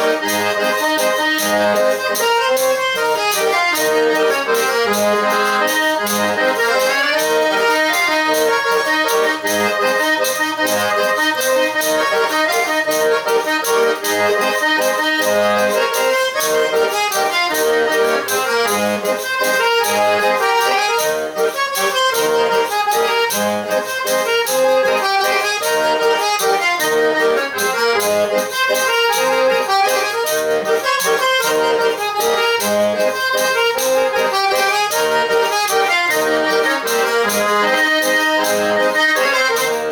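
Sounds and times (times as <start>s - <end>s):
button accordion dance tune: 0.0s - 39.9s.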